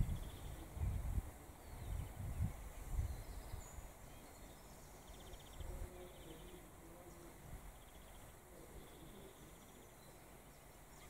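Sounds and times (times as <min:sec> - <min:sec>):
faint wind rumble: 0:00.0 - 0:11.0
small birds trilling: 0:00.0 - 0:11.0.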